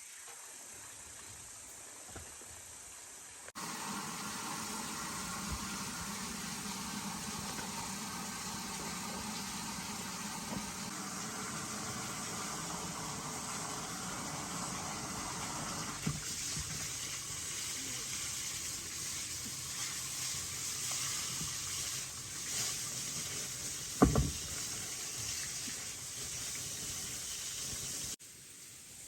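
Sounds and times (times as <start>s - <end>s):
running water hissing: 0.0s - 29.0s.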